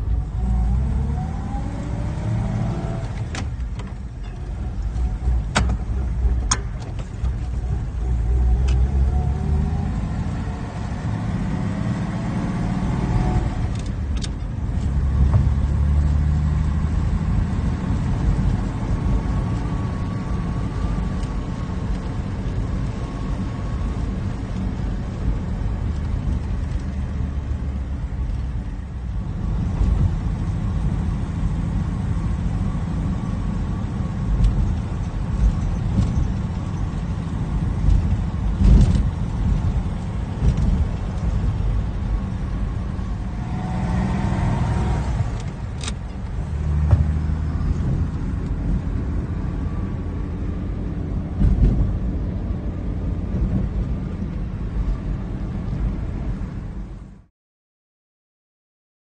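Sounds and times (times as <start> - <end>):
engine and road rumble: 0.0 - 57.3.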